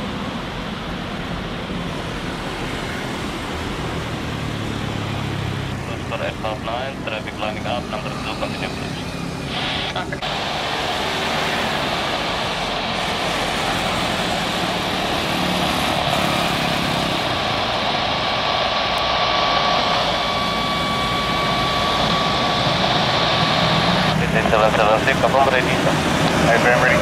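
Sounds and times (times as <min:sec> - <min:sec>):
high engine whine: 0:00.0 - 0:27.0
jet engines roaring: 0:00.0 - 0:27.0.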